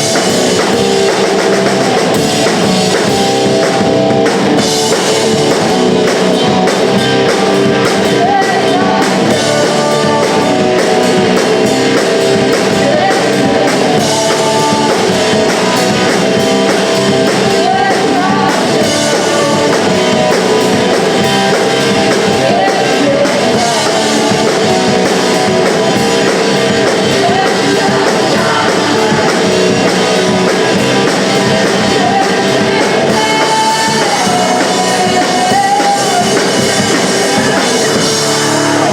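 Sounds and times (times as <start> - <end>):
drums: 0.0 - 38.9
electric guitars: 0.0 - 38.9
person singing: 4.6 - 38.9.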